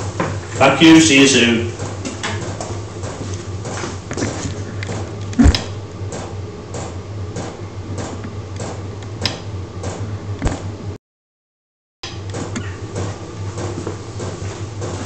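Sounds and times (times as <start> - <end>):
heater low hum: 0.0 - 11.0, 12.0 - 15.0.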